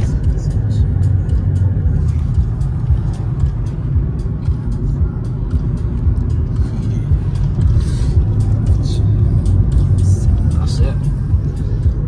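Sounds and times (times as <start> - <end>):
tyre and wind rumble in car: 0.0 - 12.0.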